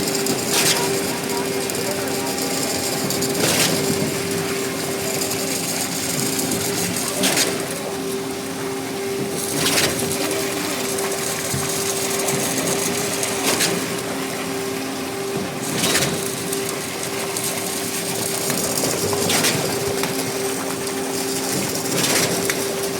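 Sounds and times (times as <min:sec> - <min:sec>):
engine and hydraulics humming: 0:00.0 - 0:22.9.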